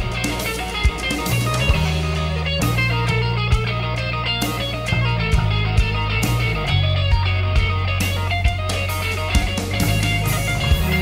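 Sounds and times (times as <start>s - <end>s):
bass line: 0.0s - 11.0s
electric guitar: 0.0s - 11.0s.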